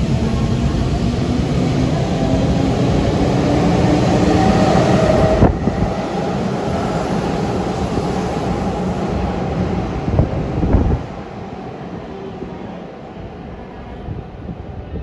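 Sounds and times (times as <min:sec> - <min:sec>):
wheels rumbling on rail: 0:00.0 - 0:12.7.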